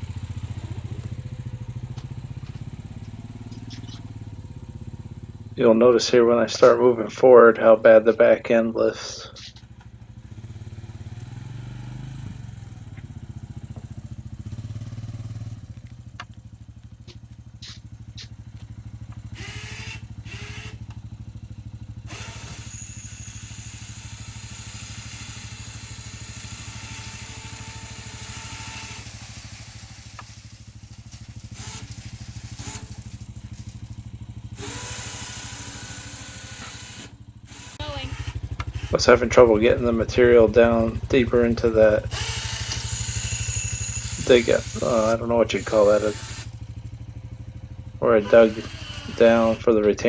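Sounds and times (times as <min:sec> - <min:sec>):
atv engine running: 0:00.0 - 0:50.0.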